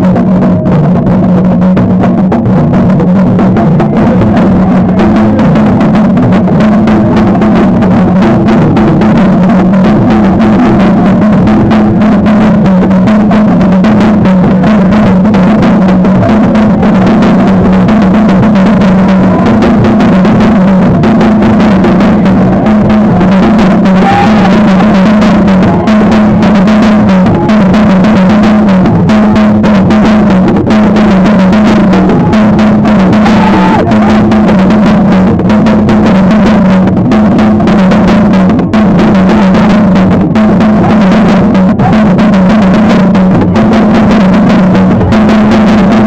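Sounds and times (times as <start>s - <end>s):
dense drumming: 0.0s - 46.0s
low two-note bass line: 0.0s - 46.0s.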